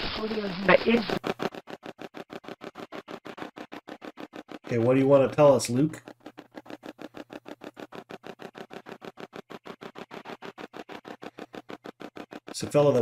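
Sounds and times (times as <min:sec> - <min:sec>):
radio sweeping through static: 0:00.0 - 0:13.0.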